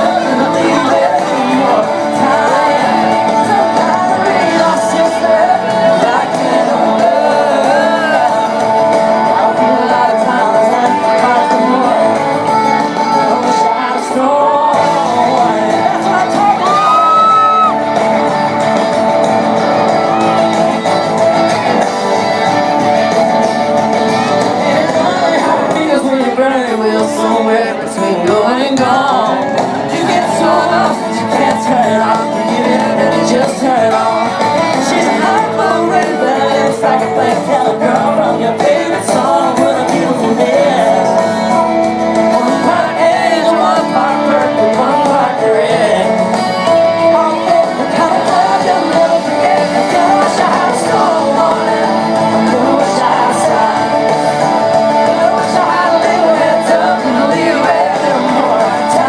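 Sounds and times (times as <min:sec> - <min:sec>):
man singing: 0:00.0 - 0:18.1, 0:24.3 - 0:59.0
live country-pop band: 0:00.0 - 0:59.0.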